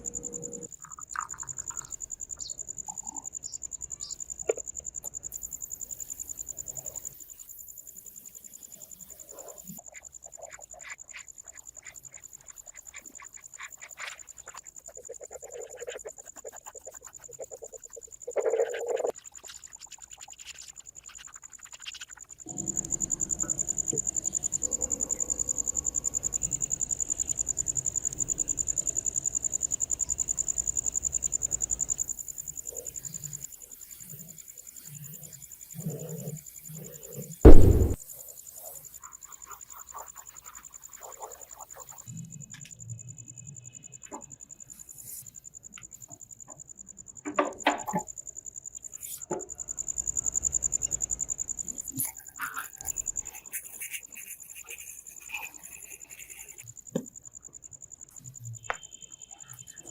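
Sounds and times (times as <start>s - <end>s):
insect chirping: 0.0s - 59.9s.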